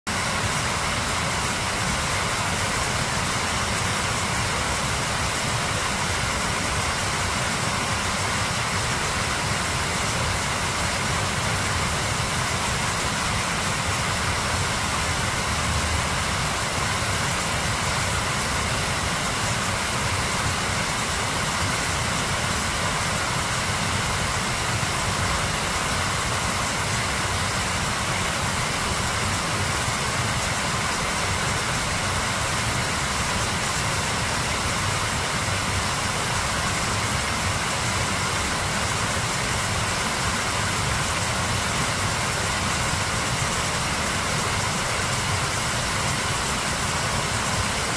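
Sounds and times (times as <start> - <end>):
river water rushing over rapid: 0.1 - 47.9.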